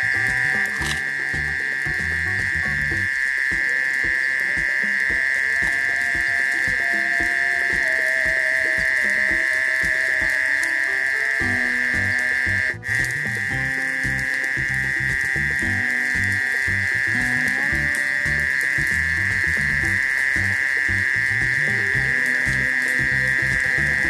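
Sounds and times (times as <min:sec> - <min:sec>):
insect chorus droning: 0:00.0 - 0:24.0
soft background music: 0:00.0 - 0:24.0.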